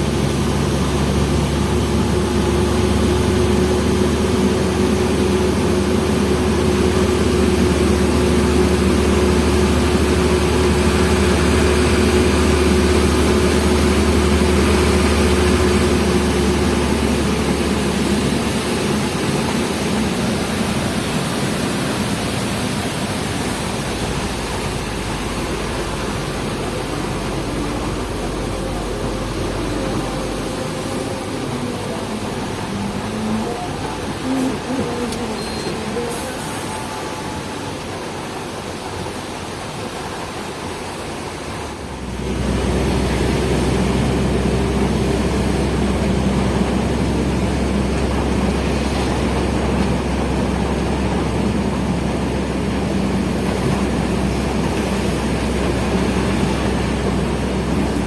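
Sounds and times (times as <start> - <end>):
truck diesel engine drone: 0.0 - 58.0.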